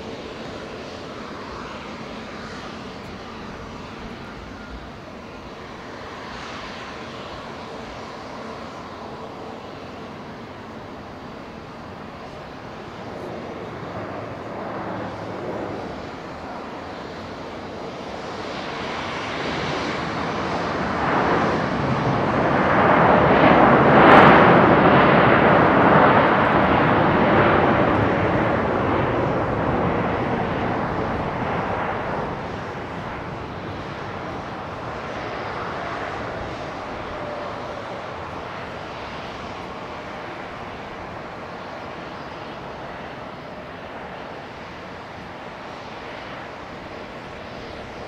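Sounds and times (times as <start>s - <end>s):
jet engines roaring past: 0.0s - 48.0s.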